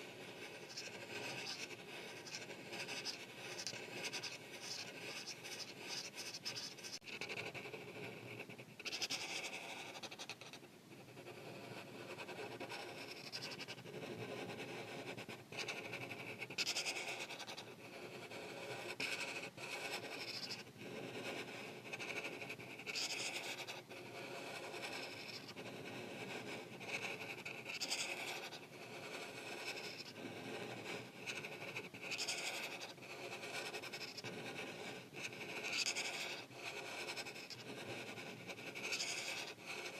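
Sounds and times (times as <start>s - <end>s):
marker scratching on paper: 0.0s - 39.9s.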